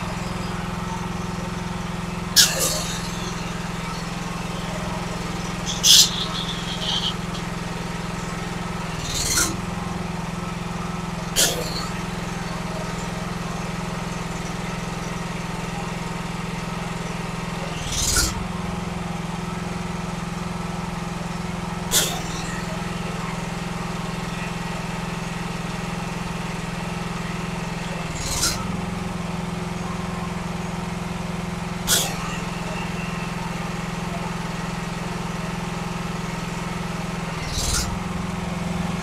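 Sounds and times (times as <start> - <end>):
pressure washer engine running: 0.0 - 39.0.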